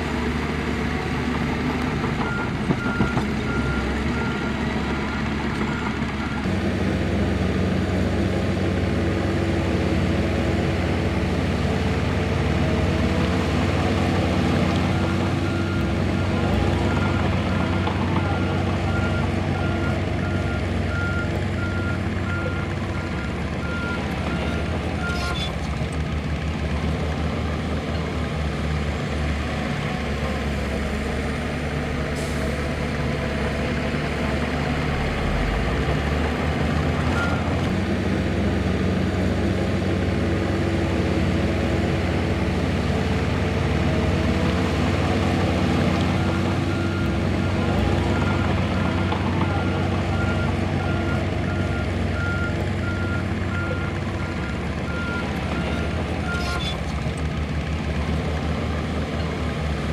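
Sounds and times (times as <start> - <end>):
diesel engines running: 0.0 - 59.9.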